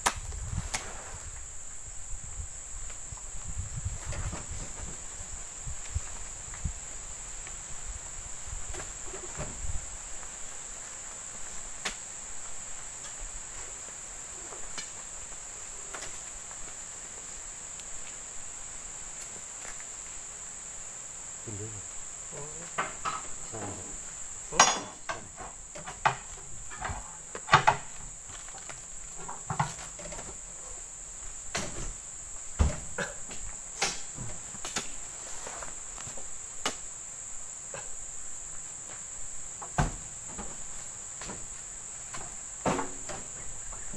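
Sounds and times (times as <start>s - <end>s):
high drone of insects: 0.0s - 43.9s.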